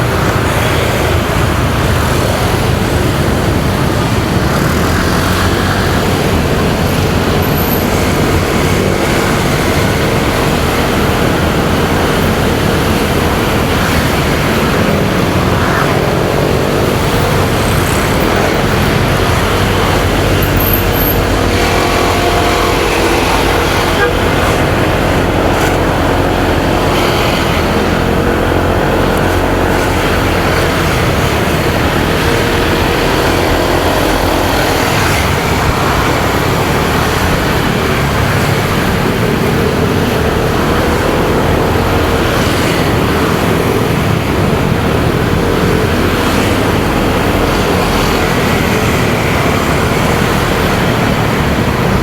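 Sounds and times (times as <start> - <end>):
motorcycle engine running: 0.0 - 52.0
road traffic: 0.0 - 52.0.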